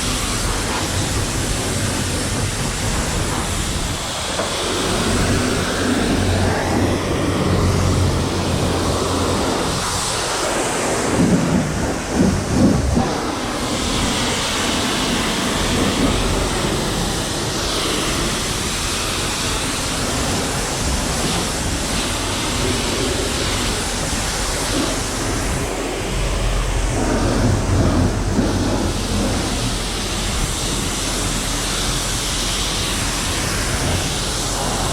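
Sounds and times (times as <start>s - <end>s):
pressure washer spraying car: 0.0s - 34.9s.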